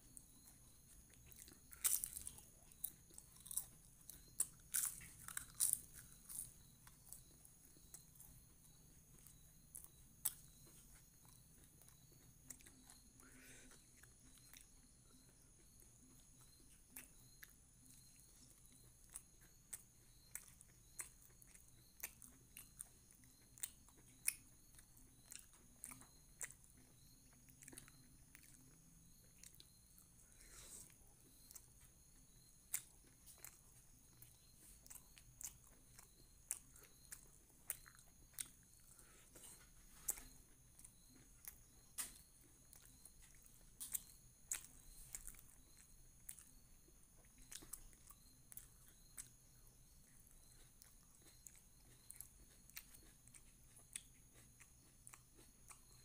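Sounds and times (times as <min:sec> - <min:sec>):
chewing mouth clicks and smacks: 0:00.1 - 0:30.2, 0:30.8 - 0:56.0
crunching bites of crisp food: 0:00.1 - 0:56.0.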